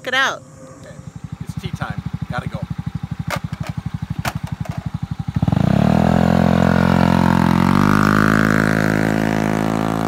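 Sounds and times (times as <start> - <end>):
scooter engine idling and revving: 0.6 - 10.0.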